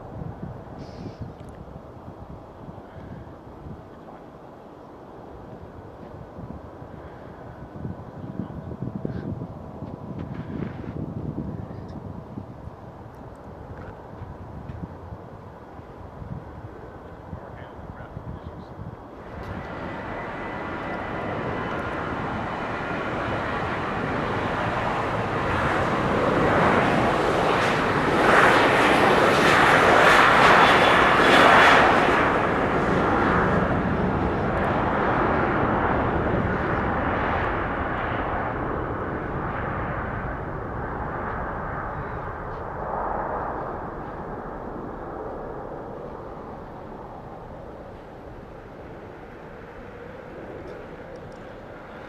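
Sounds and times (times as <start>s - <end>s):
airliner engines passing: 0.0s - 52.0s.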